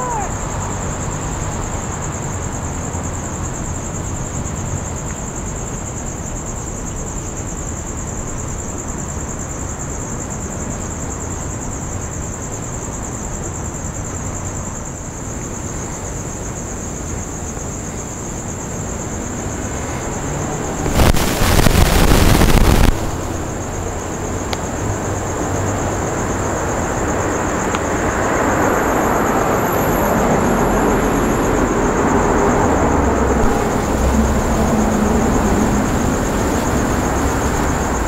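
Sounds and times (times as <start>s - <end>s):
crickets droning: 0.0s - 38.0s.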